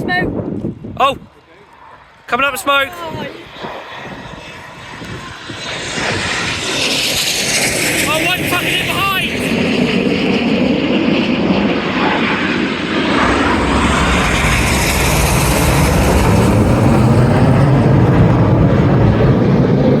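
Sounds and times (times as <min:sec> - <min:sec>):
jet roar: 0:00.0 - 0:20.0
deep rumble: 0:03.1 - 0:20.0.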